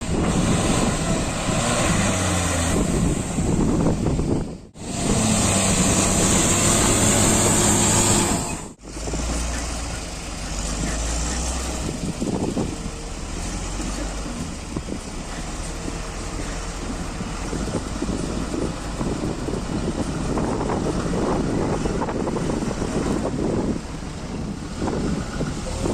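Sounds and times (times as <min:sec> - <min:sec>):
heavy diesel machinery running: 0:00.0 - 0:25.9.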